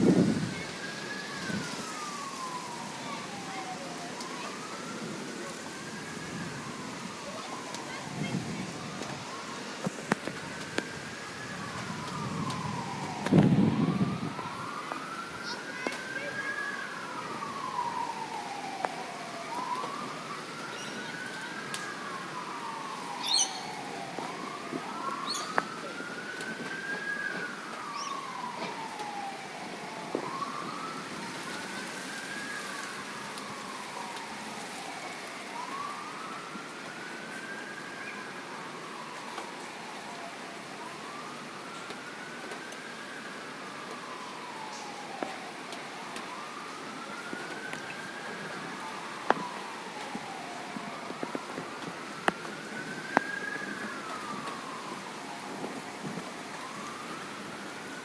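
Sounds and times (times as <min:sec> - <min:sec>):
vehicle passing on wet road: 0:00.0 - 0:40.3, 0:41.0 - 0:58.0
fire truck siren wailing: 0:00.0 - 0:58.0
rain hiss: 0:00.0 - 0:58.0.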